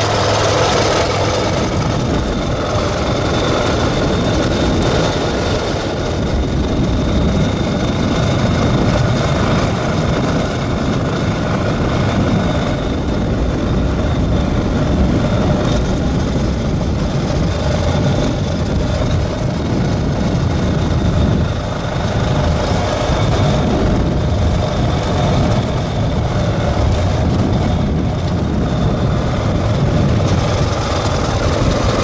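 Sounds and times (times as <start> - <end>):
motorcycle engine rumble: 0.0 - 32.0
wind and road noise: 0.0 - 32.0.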